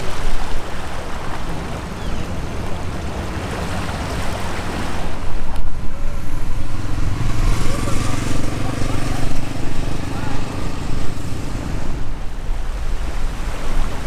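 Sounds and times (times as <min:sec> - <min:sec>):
water washing against rocks: 0:00.0 - 0:14.0
wind on microphone: 0:00.0 - 0:14.0.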